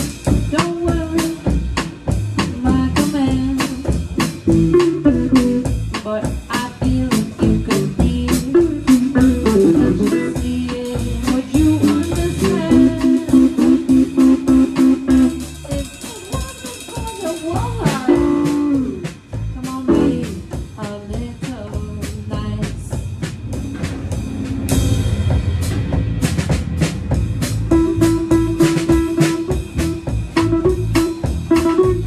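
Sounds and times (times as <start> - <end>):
drum kit steady beat: 0.0 - 32.0.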